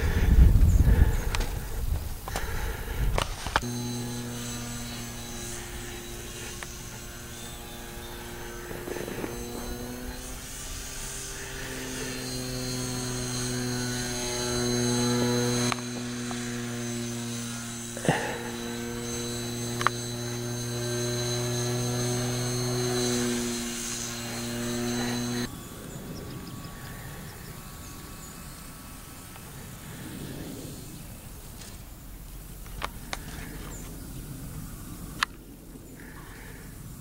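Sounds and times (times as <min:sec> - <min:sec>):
model plane motor buzzing: 0:00.0 - 0:37.0.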